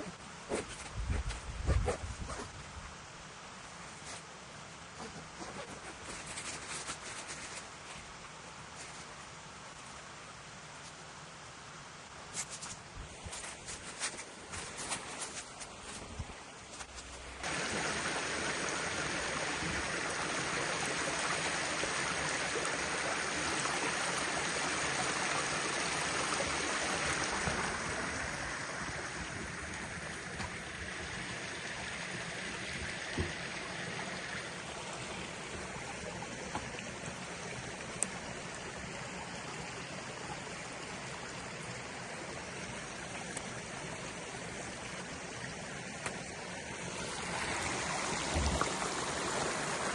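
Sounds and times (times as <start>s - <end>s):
stream water running: 0.0s - 49.9s.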